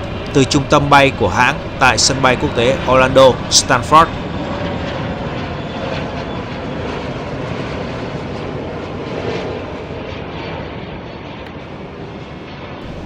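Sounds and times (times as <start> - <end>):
jet engines: 0.0 - 13.0.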